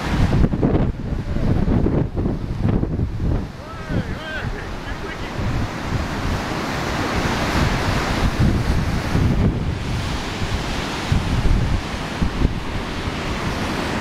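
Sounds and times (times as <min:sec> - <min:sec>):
sea surf breaking: 0:00.0 - 0:14.0
wind buffeting microphone: 0:00.0 - 0:14.0.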